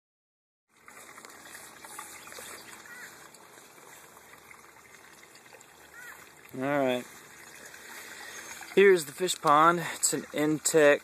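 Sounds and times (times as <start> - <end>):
water trickling into a pond: 0.7 - 11.0.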